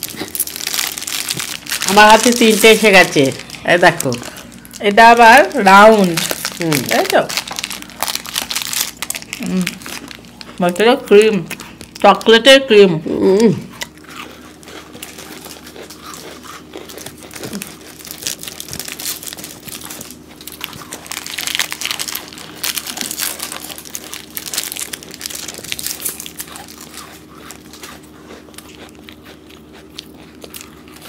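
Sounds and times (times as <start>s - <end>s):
plastic wrapper crinkling: 0.0s - 12.6s, 13.8s - 28.0s
faint steady hum: 0.0s - 31.0s.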